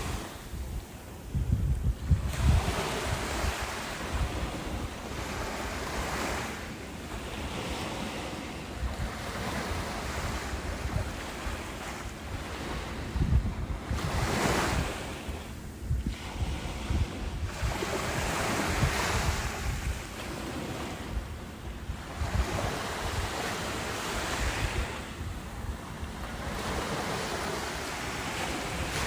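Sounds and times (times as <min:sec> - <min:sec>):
ocean waves breaking on shore: 0:00.0 - 0:29.0.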